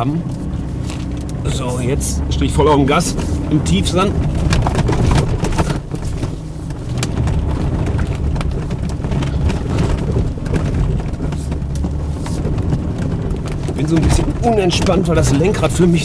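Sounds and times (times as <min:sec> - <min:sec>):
diesel engine at full throttle: 0:00.0 - 0:16.0
clicks and crackles: 0:03.2 - 0:16.0.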